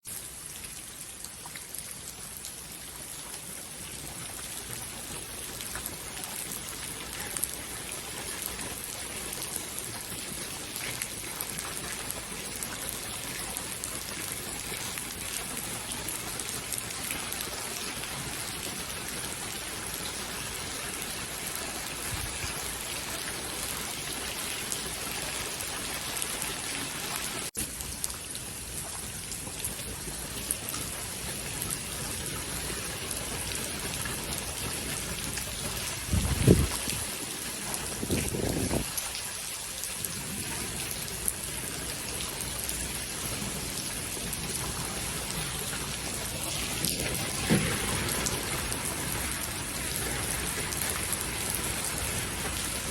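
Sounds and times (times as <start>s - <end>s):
raindrops ticking on a surface: 0.0s - 52.9s
steady rainfall hiss: 2.3s - 52.9s.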